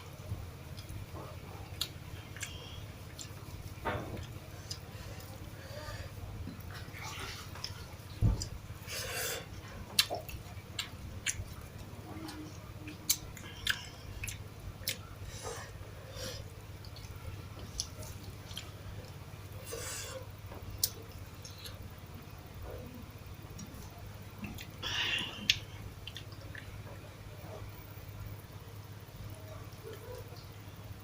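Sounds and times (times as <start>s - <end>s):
person chewing food: 0.0s - 29.0s
steady low hum: 0.0s - 31.0s.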